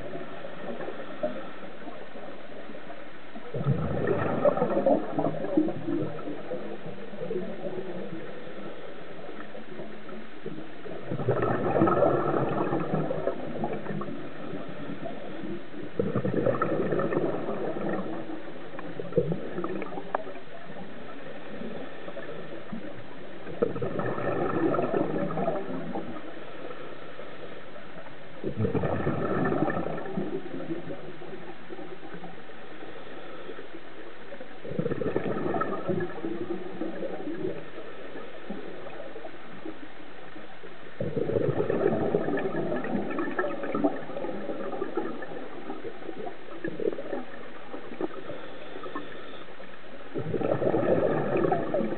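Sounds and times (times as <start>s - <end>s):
low hiss: 0.0s - 51.9s
underwater breath bubbles: 3.4s - 27.6s, 28.4s - 39.9s, 40.9s - 51.9s.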